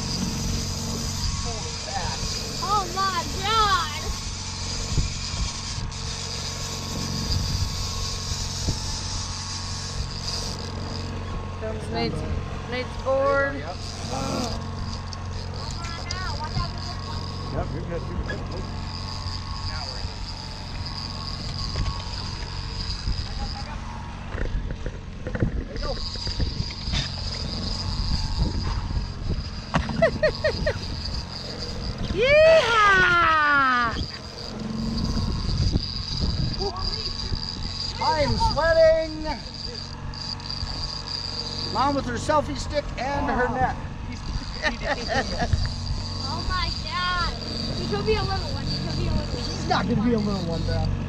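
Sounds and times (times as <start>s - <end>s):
boat engine hum: 0.0s - 51.0s
fishing reel ratcheting: 0.0s - 51.0s
thin high whine: 0.0s - 51.0s.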